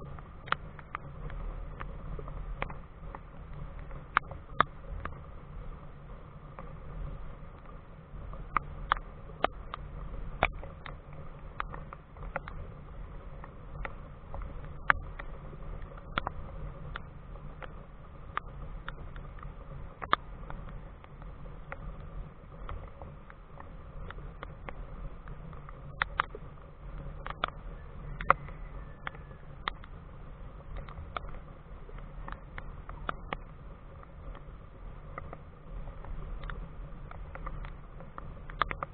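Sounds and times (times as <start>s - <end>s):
steady low rumble: 0.0s - 38.9s.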